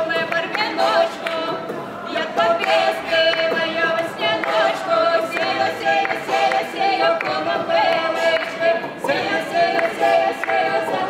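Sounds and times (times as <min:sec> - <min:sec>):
group singing unaccompanied: 0:00.0 - 0:11.0
woman singing lead: 0:00.0 - 0:11.0.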